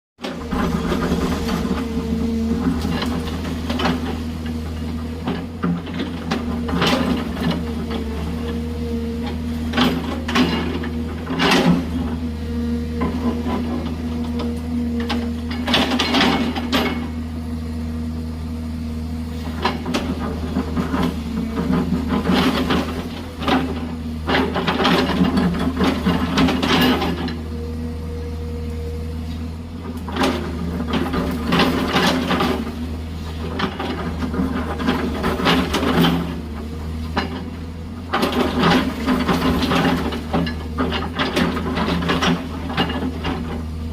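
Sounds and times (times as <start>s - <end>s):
diesel engine under load: 0.2s - 43.9s.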